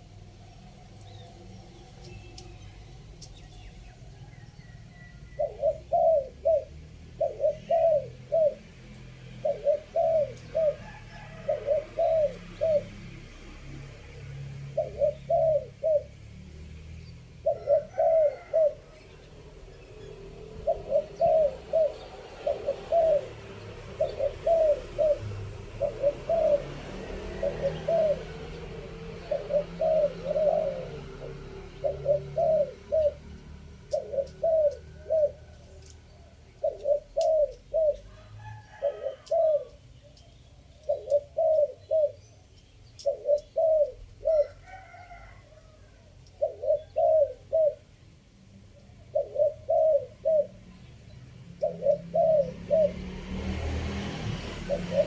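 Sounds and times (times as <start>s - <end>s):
dove cooing: 0.0s - 16.4s, 17.3s - 55.0s.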